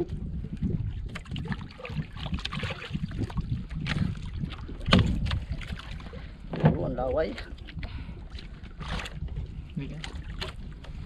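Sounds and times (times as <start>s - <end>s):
water sloshing and splashing: 0.0s - 11.0s
wind rumbling on microphone: 0.0s - 11.0s
knocks and clicks on boat: 1.0s - 11.0s.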